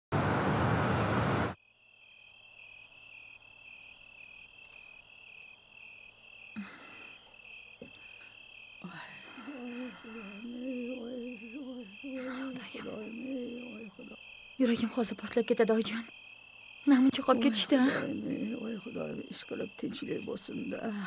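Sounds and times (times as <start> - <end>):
crickets chirping: 1.6 - 21.0.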